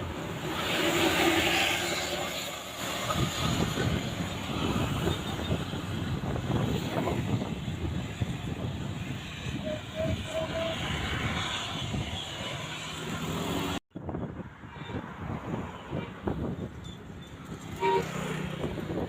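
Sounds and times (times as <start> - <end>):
heavy road traffic: 0.0 - 19.0.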